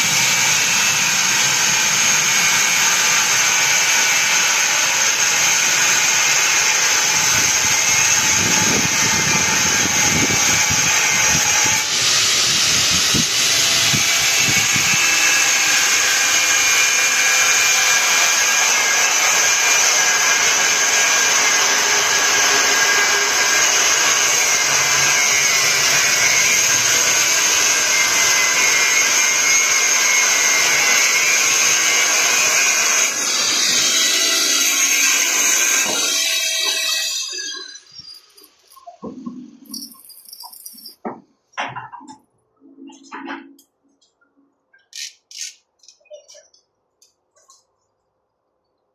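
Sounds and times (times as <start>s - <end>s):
power tool whining: 0.0s - 39.2s.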